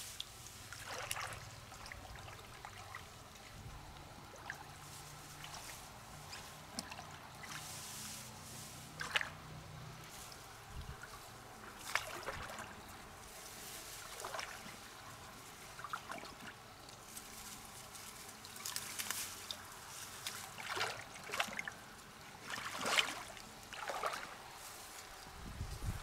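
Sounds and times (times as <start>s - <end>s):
water sloshing and splashing: 0.0s - 26.0s
water trickling: 0.1s - 7.9s, 8.9s - 17.5s, 18.4s - 26.0s.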